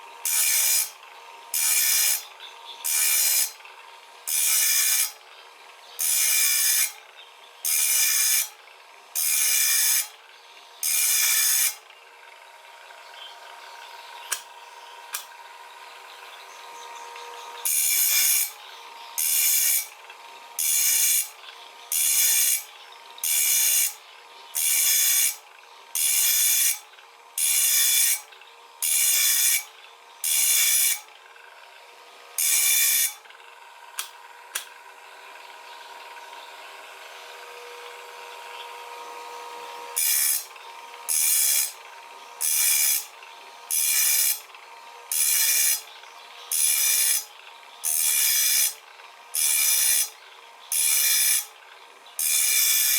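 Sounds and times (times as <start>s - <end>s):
grinding wheel grinding saw teeth: 0.0s - 52.9s
sharpening machine humming: 0.0s - 52.9s.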